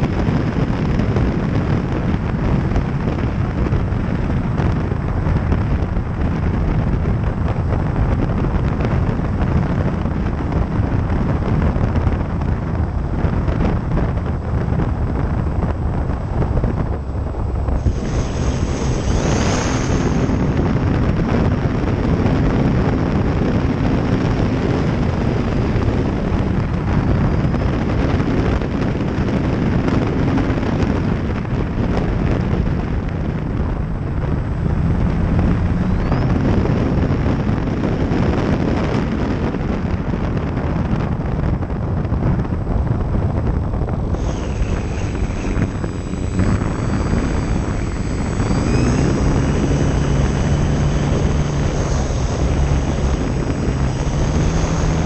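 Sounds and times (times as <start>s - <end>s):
electric motor and propeller droning: 0.0s - 40.5s, 42.8s - 55.0s
wind buffeting microphone: 0.0s - 55.0s.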